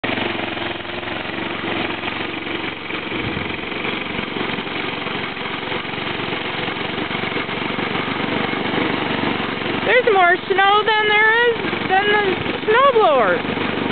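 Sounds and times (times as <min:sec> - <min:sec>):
snowblower engine chugging: 0:00.0 - 0:13.9.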